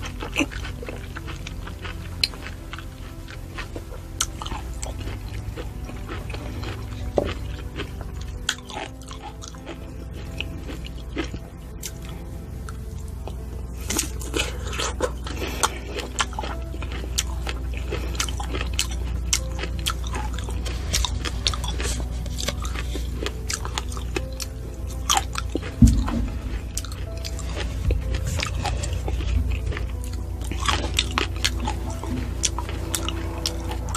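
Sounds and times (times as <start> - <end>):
chewing fruit: 0.0 - 33.9
soft background music: 0.0 - 33.9.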